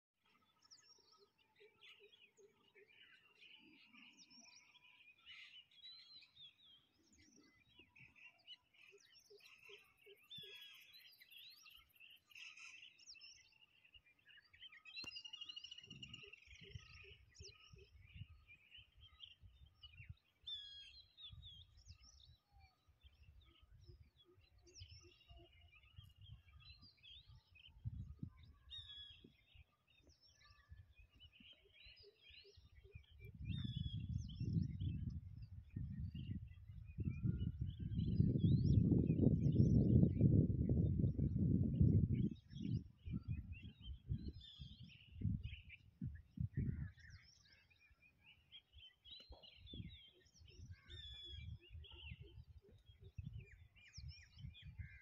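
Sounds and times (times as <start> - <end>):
faint birds chirping: 0.2 - 55.0.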